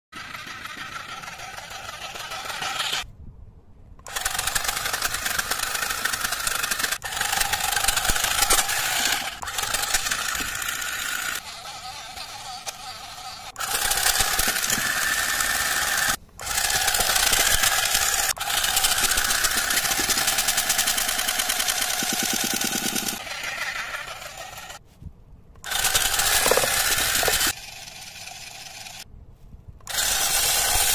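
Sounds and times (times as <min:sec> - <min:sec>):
toy legs clattering: 0:00.2 - 0:03.0, 0:04.0 - 0:24.8, 0:25.6 - 0:29.0
toy motor rattling whir: 0:00.2 - 0:03.1, 0:04.0 - 0:24.8, 0:25.6 - 0:29.1, 0:29.8 - 0:30.9.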